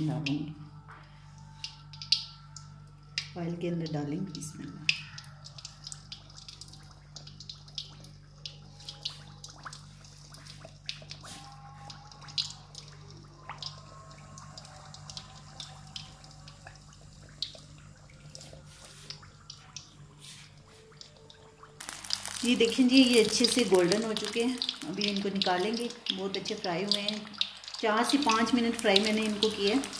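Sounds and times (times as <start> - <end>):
oil sizzling and popping: 4.9 - 11.5, 12.2 - 29.9.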